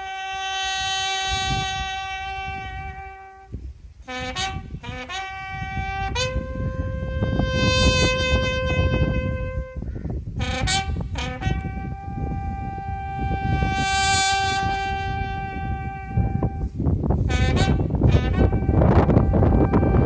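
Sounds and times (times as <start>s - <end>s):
bugle call: 0.0s - 20.0s.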